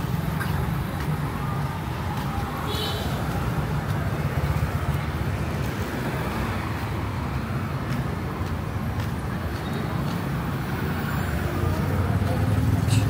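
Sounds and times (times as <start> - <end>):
motor vehicles running: 0.0 - 13.0
road noise: 0.0 - 13.0.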